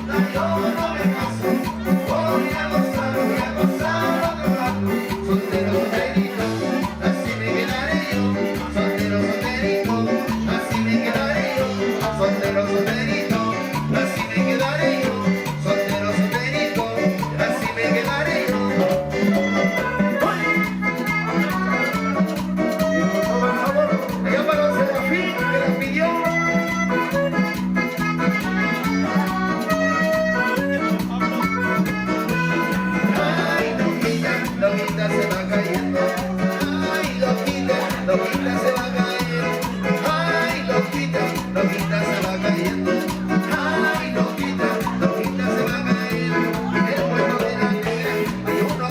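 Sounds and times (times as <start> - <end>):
accordion-like keyboard melody: 0.0 - 48.9
live latin dance music: 0.0 - 48.9
percussion beat: 0.0 - 48.9
steady bass: 0.0 - 48.9.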